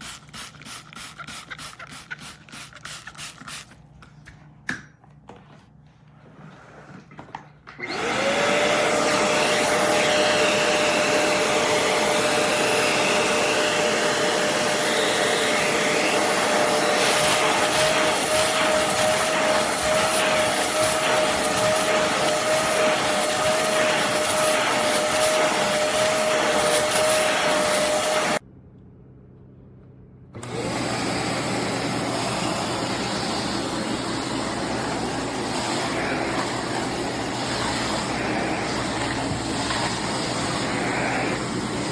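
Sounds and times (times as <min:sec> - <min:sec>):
vacuum cleaner running: 0:06.1 - 0:28.4, 0:30.4 - 0:41.9.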